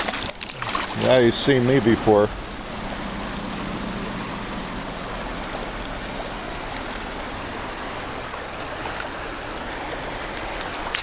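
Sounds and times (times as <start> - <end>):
river flowing over gravel: 0.0 - 11.0.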